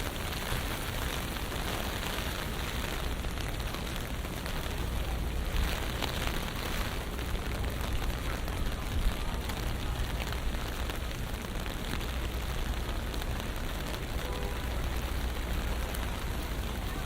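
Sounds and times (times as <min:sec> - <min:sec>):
rain falling on street: 0:00.0 - 0:17.0
traffic rumble: 0:00.0 - 0:17.0.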